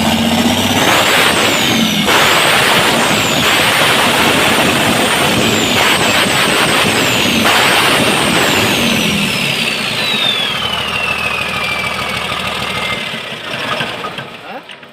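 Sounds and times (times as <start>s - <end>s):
turbocharger whistle: 0.0s - 13.4s
diesel engine running: 0.0s - 14.9s.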